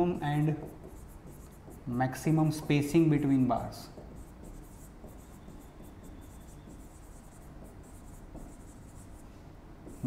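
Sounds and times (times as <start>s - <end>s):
marker writing on a whiteboard: 0.0s - 10.0s.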